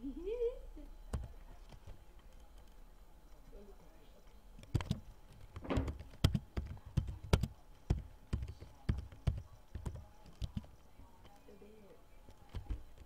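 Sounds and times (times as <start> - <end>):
keyboard typing: 1.1 - 3.4, 4.2 - 11.5, 12.2 - 13.0.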